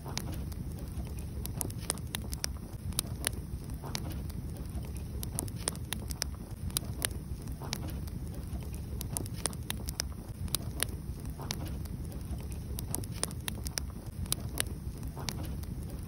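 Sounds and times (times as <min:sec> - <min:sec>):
fire low rush: 0:00.0 - 0:16.0
wood fire crackling and popping: 0:00.0 - 0:16.0.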